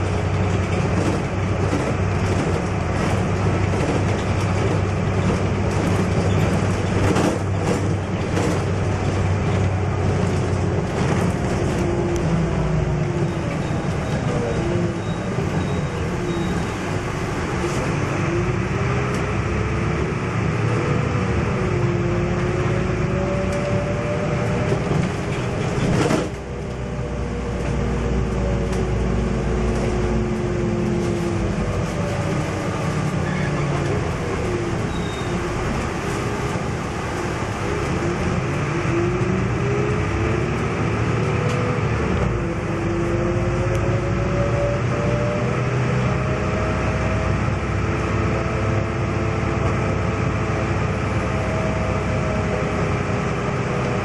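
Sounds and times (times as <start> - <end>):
bus drivetrain whine: 0.0 - 54.0
road and engine noise: 0.0 - 54.0.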